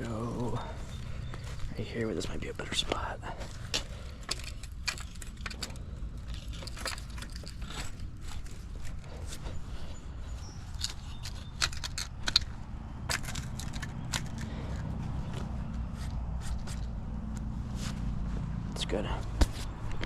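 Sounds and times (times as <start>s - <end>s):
dirt and stones crunching: 0.0s - 20.0s
heavy equipment engines rumbling: 0.0s - 20.0s.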